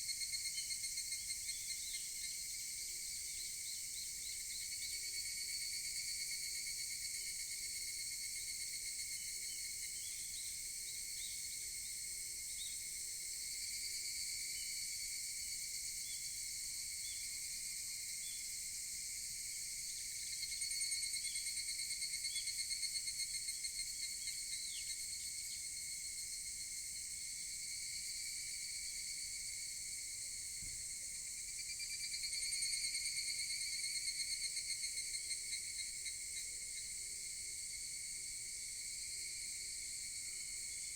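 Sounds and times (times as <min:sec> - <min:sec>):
cicadas chorus: 0:00.0 - 0:40.9
rapidly pulsing cicada trill: 0:00.0 - 0:40.9.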